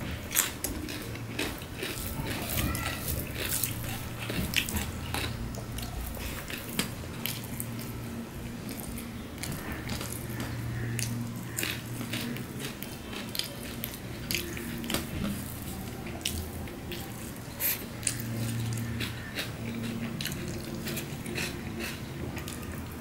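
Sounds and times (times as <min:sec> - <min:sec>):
fingers mixing wet food: 0:00.3 - 0:23.0
open-mouthed chewing: 0:00.3 - 0:23.0.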